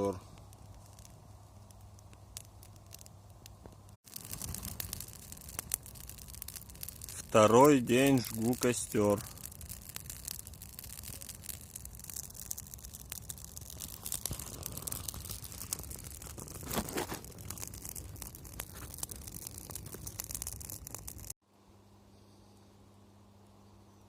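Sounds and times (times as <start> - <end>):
campfire crackling: 0.0 - 21.4.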